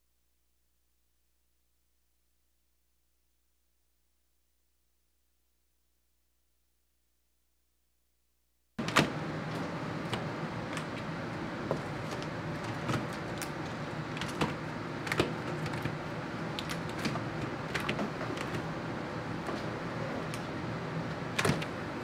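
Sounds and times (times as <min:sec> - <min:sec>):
workroom hum: 0:00.0 - 0:22.0.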